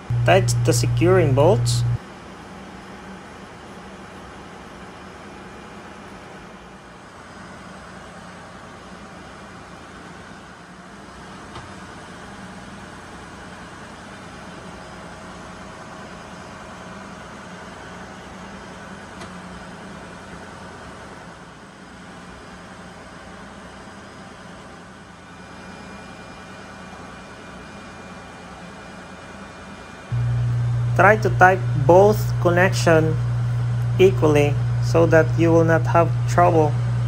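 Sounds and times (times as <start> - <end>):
engine room machinery drone: 0.0 - 37.0.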